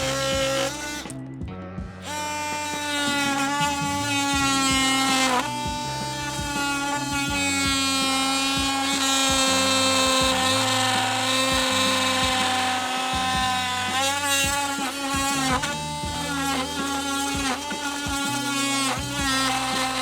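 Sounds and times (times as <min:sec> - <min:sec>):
oscillating multi-tool buzzing: 0:00.0 - 0:01.2, 0:02.0 - 0:20.0
background music with beat: 0:00.0 - 0:20.0.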